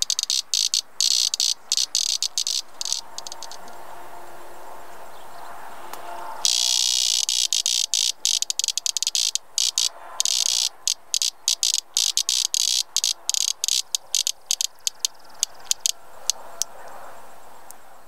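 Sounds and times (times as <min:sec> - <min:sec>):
cicada clicks: 0:00.0 - 0:04.1, 0:05.9 - 0:18.0
cicada buzzing: 0:00.0 - 0:18.0.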